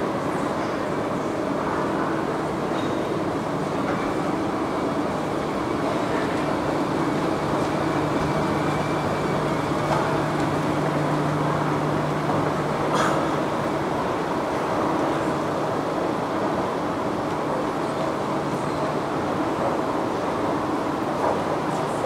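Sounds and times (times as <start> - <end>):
escalator mechanical rumble: 3.2 - 20.9.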